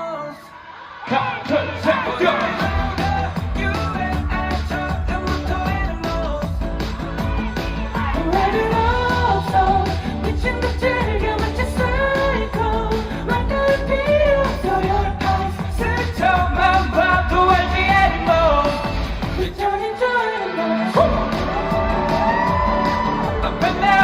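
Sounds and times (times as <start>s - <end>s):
man singing: 0.0s - 0.5s, 1.1s - 24.0s
pop band with heavy beat: 0.0s - 24.0s.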